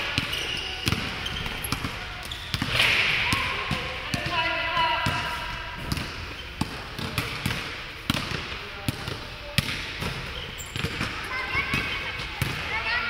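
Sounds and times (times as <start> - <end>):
basketballs bouncing on court: 0.0 - 13.0.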